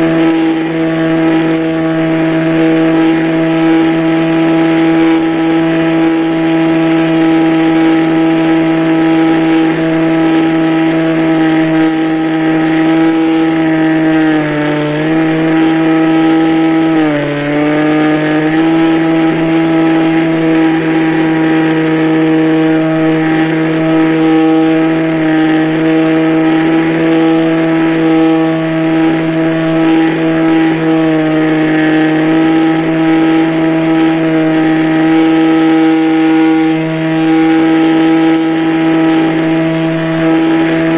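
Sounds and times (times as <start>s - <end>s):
model airplane motor running: 0.0s - 40.9s.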